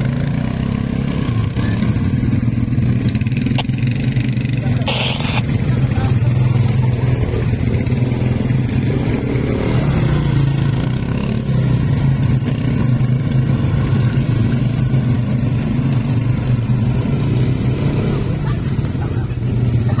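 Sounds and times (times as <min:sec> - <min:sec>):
quad bike engine drone: 0:00.0 - 0:20.0.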